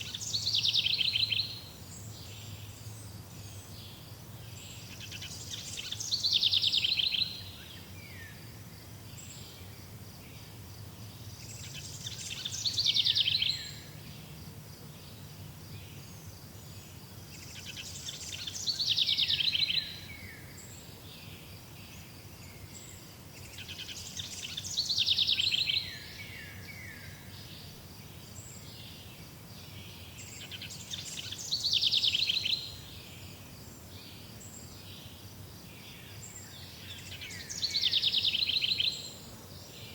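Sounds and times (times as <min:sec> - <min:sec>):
songbird trilling song: 0:00.0 - 0:39.9.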